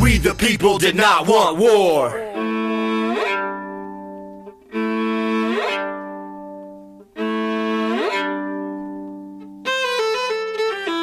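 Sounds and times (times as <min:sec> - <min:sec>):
held string chords: 0:00.0 - 0:11.0.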